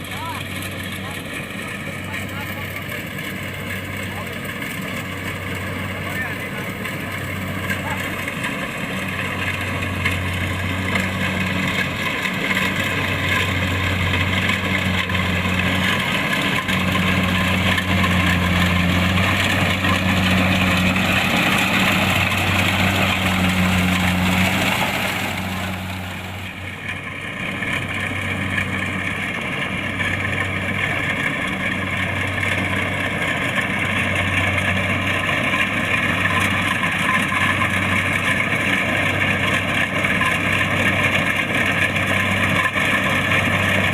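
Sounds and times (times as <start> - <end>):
combine harvester running: 0.0 - 43.9.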